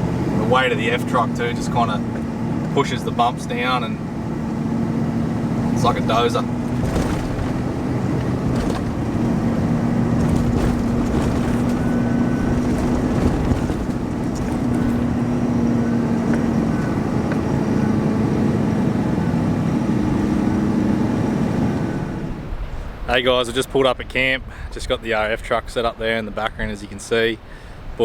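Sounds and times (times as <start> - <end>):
truck engine drone: 0.0 - 23.0.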